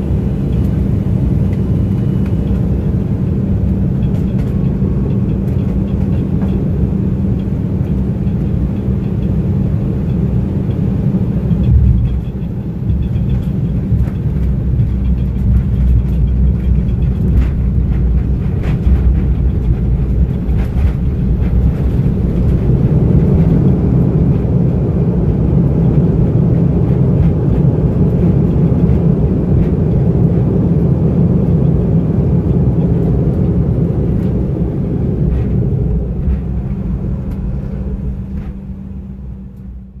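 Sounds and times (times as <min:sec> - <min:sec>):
jet engines and wheels rumbling: 0:00.0 - 0:40.0.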